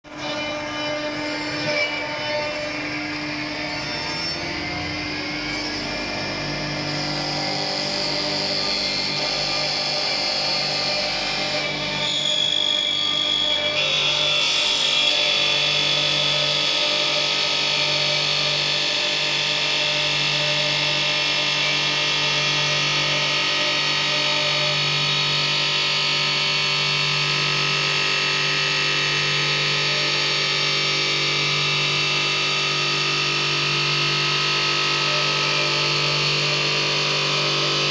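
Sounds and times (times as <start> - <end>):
lathe machine hum with whine: 0.1 - 37.9.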